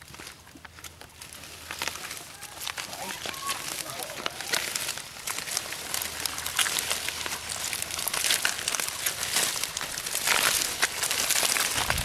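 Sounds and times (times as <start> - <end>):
plants crackling pulled from mud: 0.0 - 12.0.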